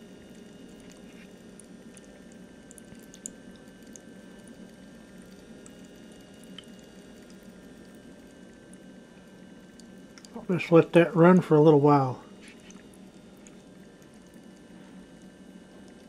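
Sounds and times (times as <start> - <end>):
faint pump hum: 0.0 - 16.0
water drips: 0.2 - 10.6, 12.4 - 16.0.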